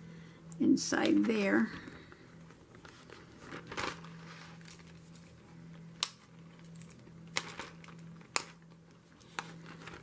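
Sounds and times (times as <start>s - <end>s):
acetate sheet rustling and crinkling: 0.9s - 10.0s.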